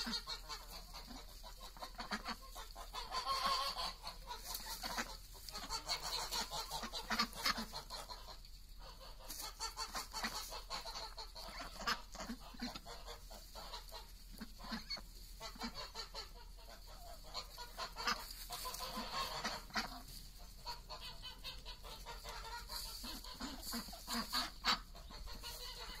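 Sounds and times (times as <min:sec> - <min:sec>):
chickens clucking: 0:00.0 - 0:26.0
ducks quacking: 0:00.0 - 0:26.0
rustle of dry leaves: 0:00.0 - 0:26.0.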